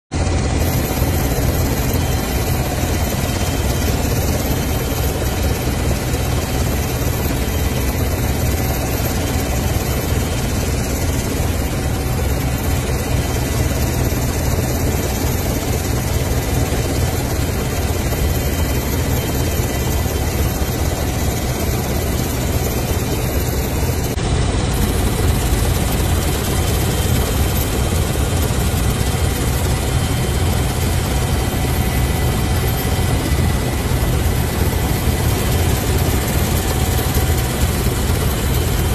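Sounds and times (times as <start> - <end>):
helicopter rotor and engine noise: 0.1 - 38.9
faint steady whine: 0.2 - 38.9.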